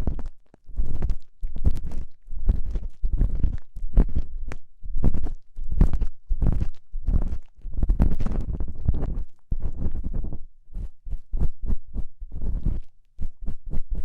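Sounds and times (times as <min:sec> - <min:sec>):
ear pick scraping microphone: 0:00.0 - 0:14.0.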